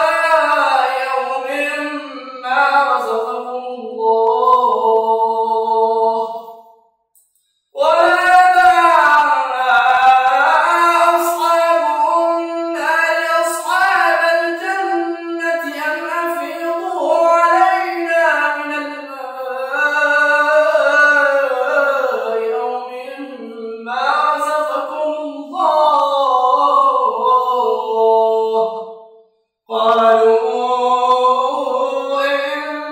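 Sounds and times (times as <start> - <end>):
person chanting melodically: 0.0 - 6.5, 7.8 - 29.0, 29.7 - 32.9.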